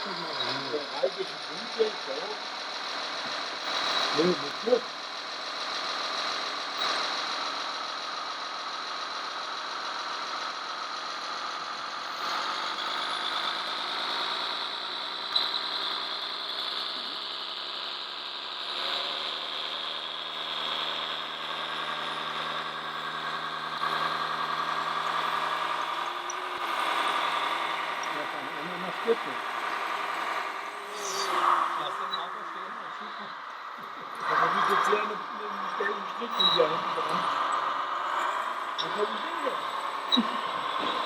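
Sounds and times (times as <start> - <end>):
model vehicles mechanical whine: 0.0 - 41.0.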